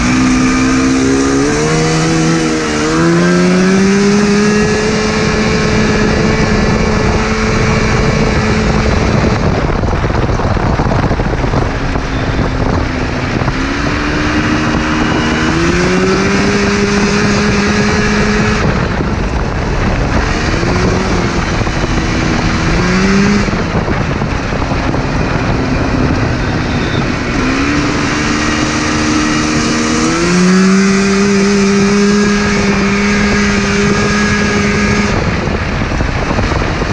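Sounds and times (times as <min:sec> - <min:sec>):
two-stroke engine revving: 0:00.0 - 0:36.9
wind and road noise: 0:00.0 - 0:36.9.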